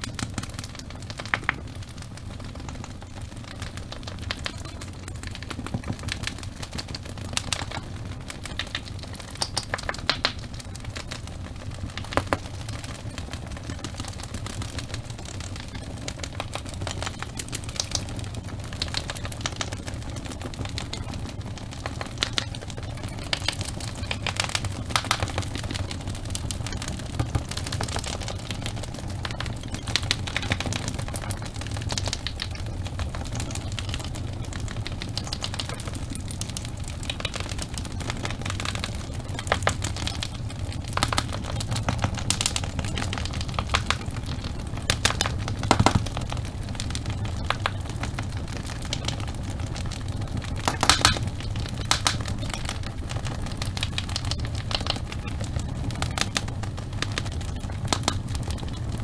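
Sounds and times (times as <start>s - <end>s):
fireplace fire crackling and popping: 0.0s - 59.0s.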